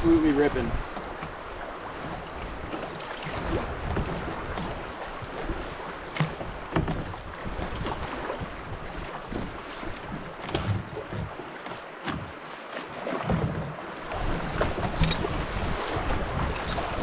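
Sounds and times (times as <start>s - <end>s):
wind buffeting microphone: 0.0s - 11.4s, 13.3s - 17.0s
river current rushing: 0.0s - 17.0s.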